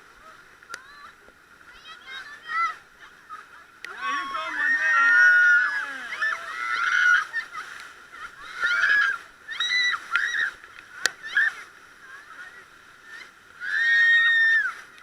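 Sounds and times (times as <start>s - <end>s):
people whooping and yelling: 2.3s - 14.9s.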